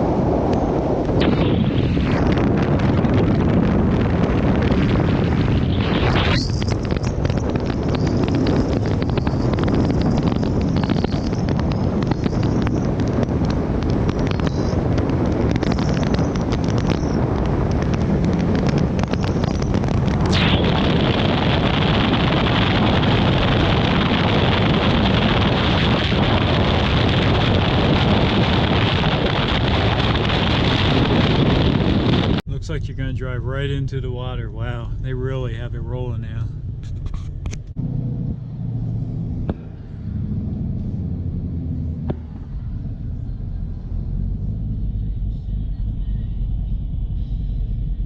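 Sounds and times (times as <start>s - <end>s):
car road noise: 0.0s - 48.0s
wind buffeting microphone: 0.0s - 48.0s.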